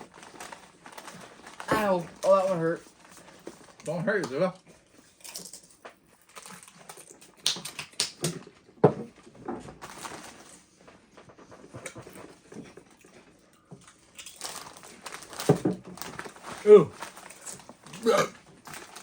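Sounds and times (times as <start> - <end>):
people chewing crunchy chips: 0.0 - 8.4, 11.6 - 19.0.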